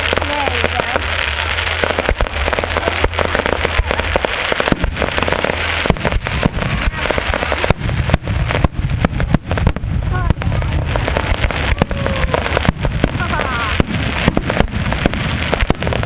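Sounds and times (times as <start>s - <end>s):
fireworks cracking and popping: 0.0s - 16.0s
fireworks hiss: 0.0s - 16.0s.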